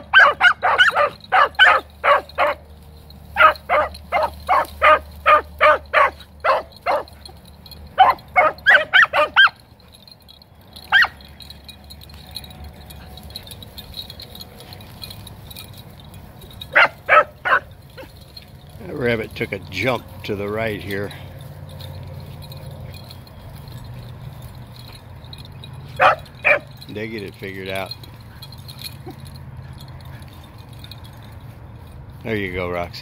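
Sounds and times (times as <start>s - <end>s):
beagles barking: 0.0s - 18.8s, 20.8s - 31.9s.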